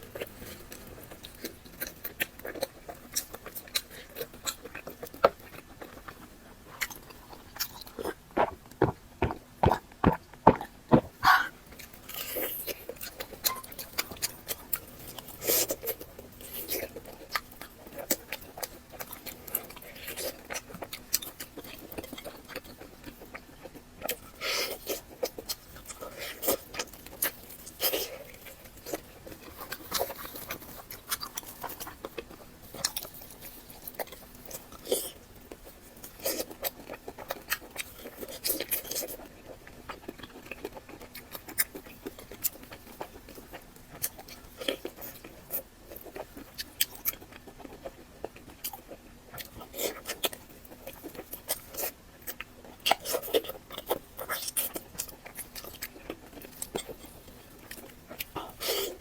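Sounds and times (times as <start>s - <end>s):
chewing mouth sounds: 0.0s - 59.0s.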